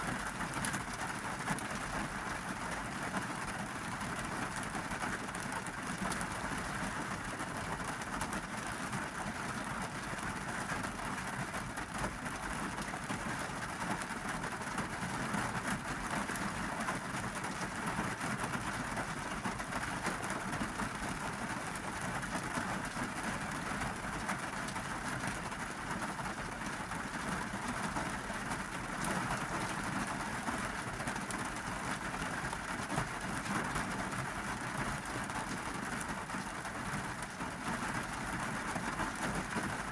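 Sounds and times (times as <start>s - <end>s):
rain pattering on car roof: 0.0s - 39.9s.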